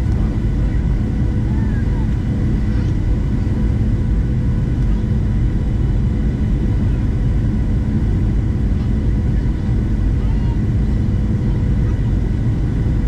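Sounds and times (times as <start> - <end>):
airplane cabin engine rumble: 0.0 - 13.0
faint constant hum: 0.0 - 13.0.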